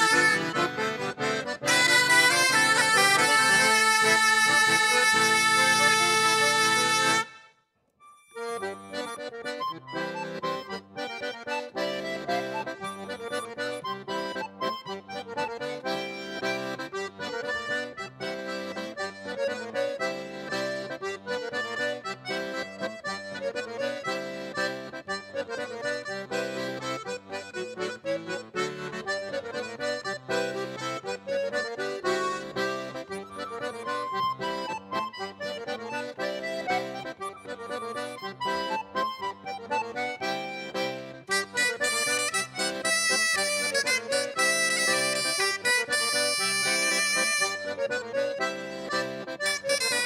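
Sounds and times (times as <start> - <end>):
accordion dance tune: 0.0 - 50.0.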